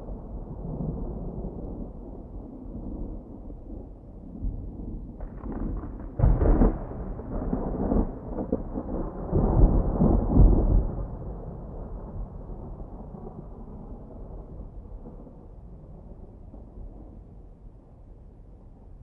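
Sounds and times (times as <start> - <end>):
thunder rumbling and cracking: 0.0 - 17.7.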